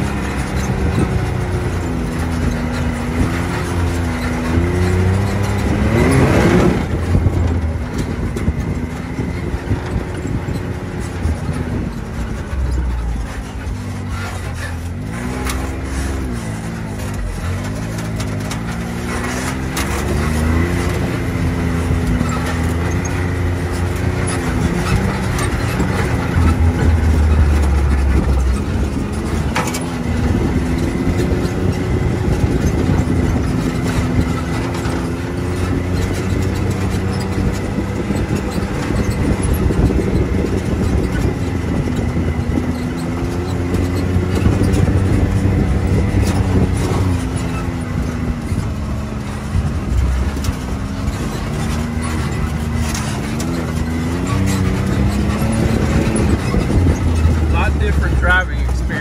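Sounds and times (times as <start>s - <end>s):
turbocharged engine revving: 0.0s - 59.0s.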